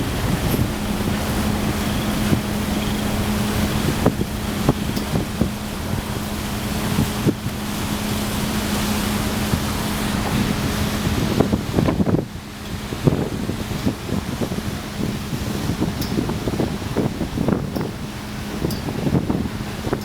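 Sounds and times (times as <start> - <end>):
ferry engine hum: 0.0 - 20.0
wind buffeting microphone: 0.0 - 20.0.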